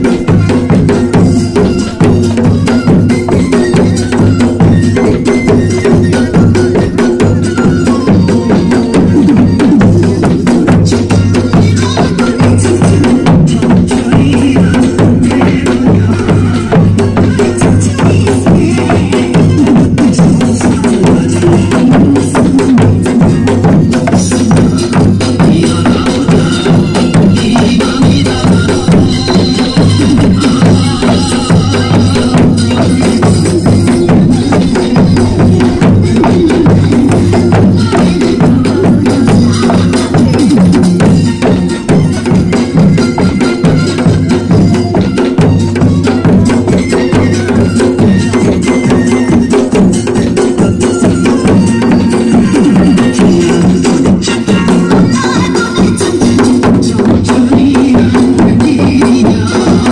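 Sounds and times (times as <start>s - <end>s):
handheld drums struck with sticks: 0.0s - 59.9s
traditional dance music: 0.0s - 59.9s.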